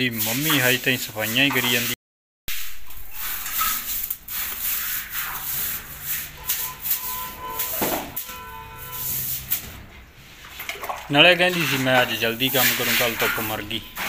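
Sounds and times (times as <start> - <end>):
broom sweeping tiled floor: 0.0 - 14.0.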